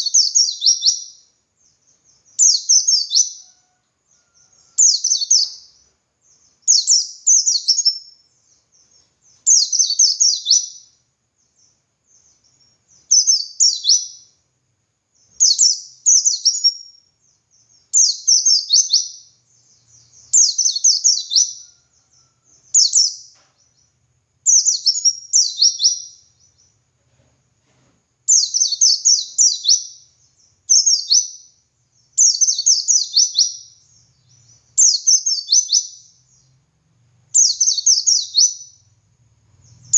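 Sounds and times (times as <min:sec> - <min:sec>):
bird twittering song: 0:00.0 - 0:14.4, 0:15.1 - 0:26.9, 0:28.3 - 0:39.9.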